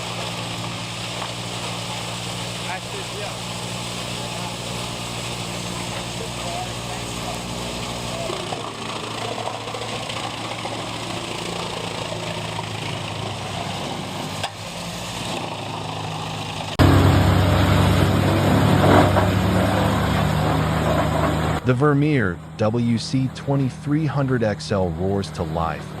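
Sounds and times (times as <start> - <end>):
machine engine droning: 0.0 - 26.0
wood chipper running: 0.0 - 26.0.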